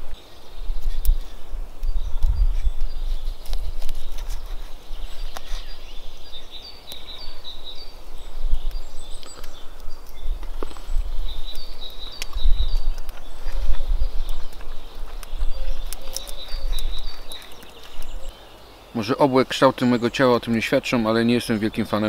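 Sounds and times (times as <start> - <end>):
wind rumbling on microphone: 0.0 - 18.3
small birds chirping: 0.0 - 22.0.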